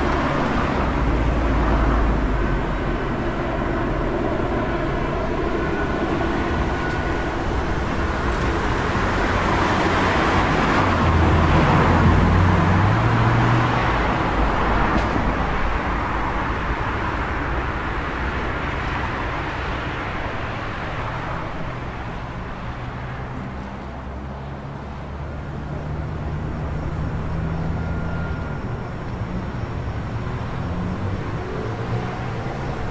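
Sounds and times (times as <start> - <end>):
city street traffic: 0.0 - 32.9.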